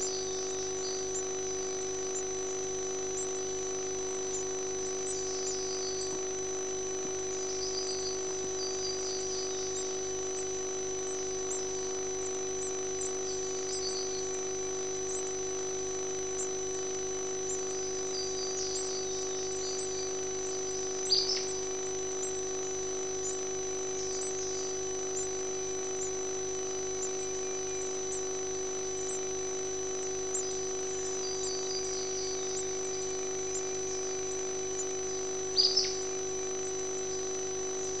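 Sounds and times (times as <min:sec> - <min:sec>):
steady electronic hum: 0:00.0 - 0:38.0.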